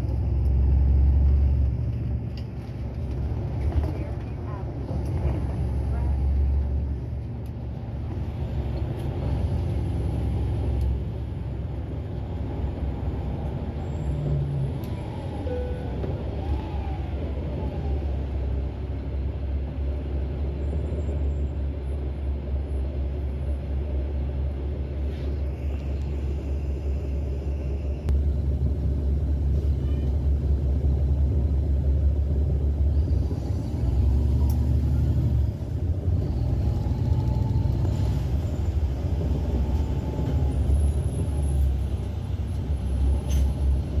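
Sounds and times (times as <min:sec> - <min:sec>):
bus diesel engine rumble: 0:00.0 - 0:44.0
road noise: 0:00.0 - 0:44.0.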